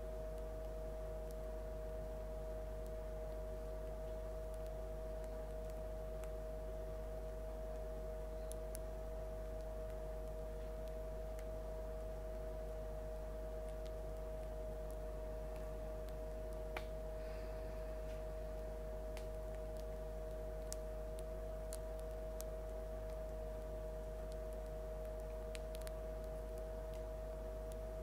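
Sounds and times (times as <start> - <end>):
steady hum: 0.0 - 28.0
bread crust crackling: 0.1 - 28.0.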